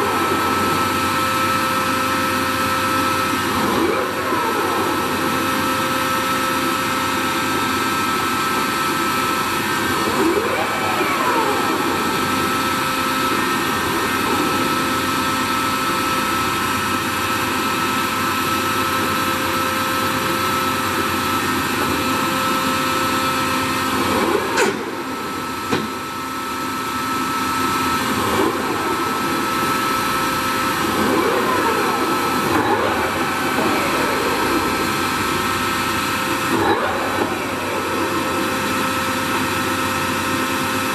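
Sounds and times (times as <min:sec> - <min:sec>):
lathe drive whine: 0:00.0 - 0:40.9.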